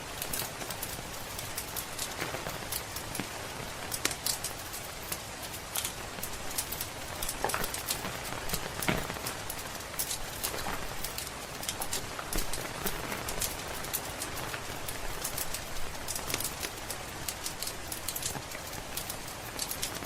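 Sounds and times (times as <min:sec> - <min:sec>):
sharp crackles and pops: 0:00.0 - 0:20.0
steady rain falling: 0:00.0 - 0:20.0.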